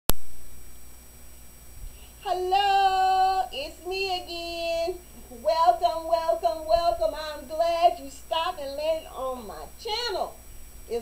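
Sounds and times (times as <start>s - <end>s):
high voice singing: 2.1s - 11.0s.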